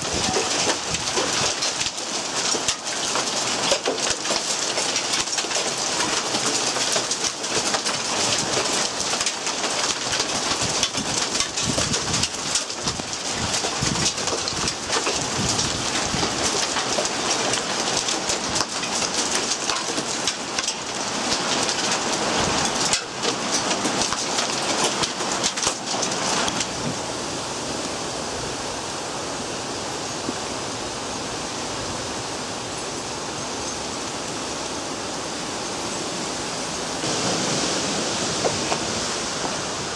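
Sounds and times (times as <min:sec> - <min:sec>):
heavy rain and hail pelting: 0:00.0 - 0:39.9.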